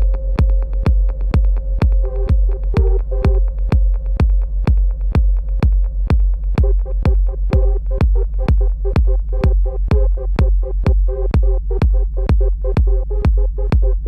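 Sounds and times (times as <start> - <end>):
deep synth bass: 0.0 - 14.0
kick drum: 0.0 - 14.0
ticking hi-hats: 0.0 - 14.0.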